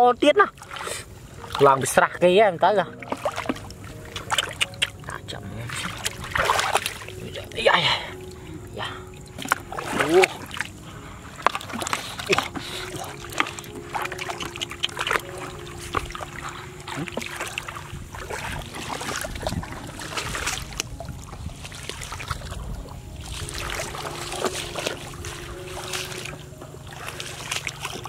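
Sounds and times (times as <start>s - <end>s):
water splashing and trickling: 0.0s - 28.0s.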